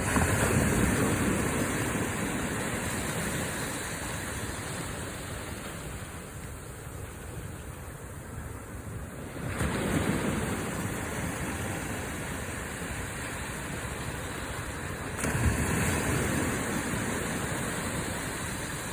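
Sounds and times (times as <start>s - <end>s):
small waves breaking on beach: 0.0s - 18.9s.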